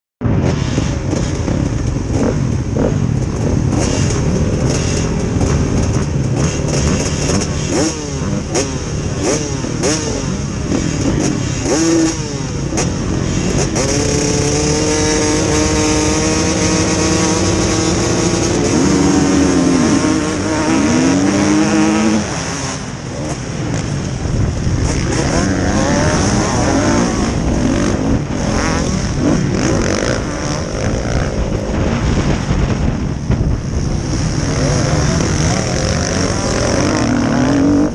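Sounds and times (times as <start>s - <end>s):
motocross bikes revving: 0.2s - 37.9s
engine at steady high revs: 0.8s - 37.9s.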